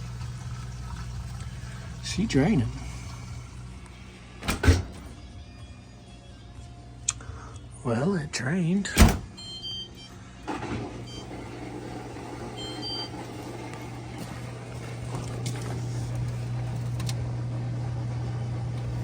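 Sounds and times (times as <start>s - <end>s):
dishwasher electric hum: 0.0s - 19.0s.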